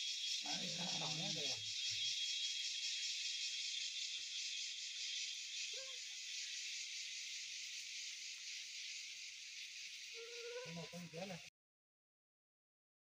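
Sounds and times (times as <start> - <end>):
insect chorus drone: 0.0 - 11.5.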